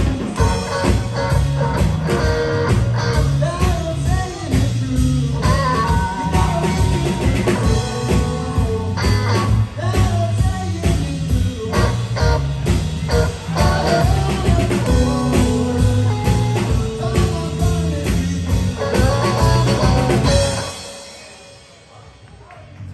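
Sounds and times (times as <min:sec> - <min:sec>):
electric guitar: 0:00.0 - 0:21.6
bass guitar: 0:00.0 - 0:22.9
drum kit: 0:00.0 - 0:22.9.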